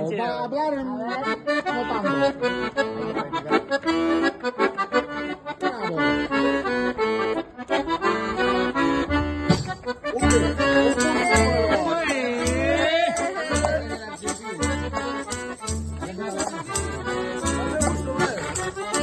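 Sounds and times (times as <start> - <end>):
piano accordion playing lively tune: 0.7 - 19.0.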